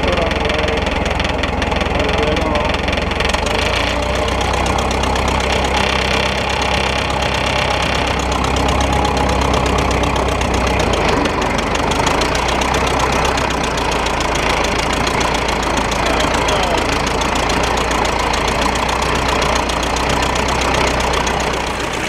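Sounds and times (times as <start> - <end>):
plow pulled through soil: 0.0 - 22.0
tractor engine running: 0.0 - 22.0.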